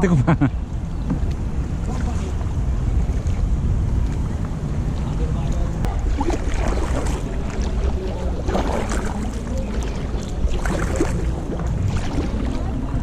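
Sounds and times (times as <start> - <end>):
steady low rumble: 0.0 - 13.0
paddles splashing in water: 1.0 - 13.0.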